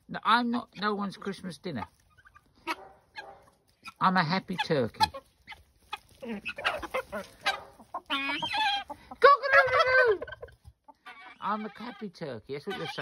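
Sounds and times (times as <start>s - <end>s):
poultry clucking and calling: 0.0s - 13.0s.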